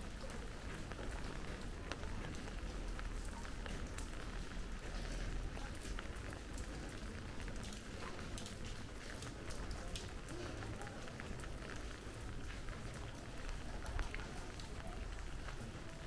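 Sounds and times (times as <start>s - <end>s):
rain falling on street: 0.0s - 16.0s.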